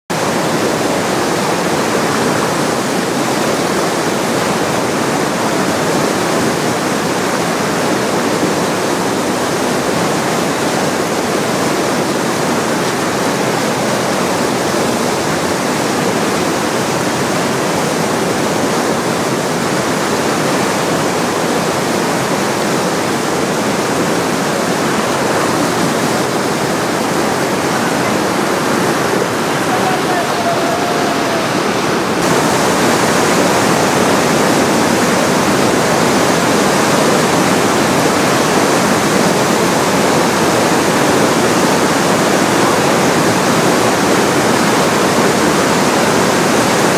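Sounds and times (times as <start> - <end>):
whitewater rapid rushing: 0.0 - 46.9.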